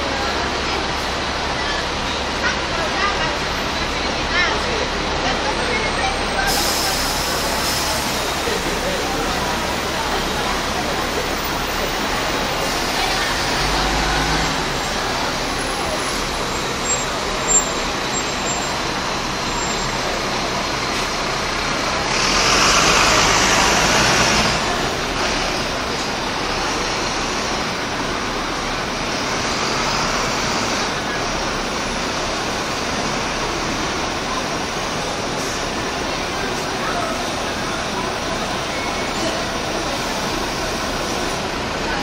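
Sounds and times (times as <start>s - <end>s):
bus engines and traffic noise: 0.0s - 42.0s
loud rush of noise: 0.0s - 42.0s.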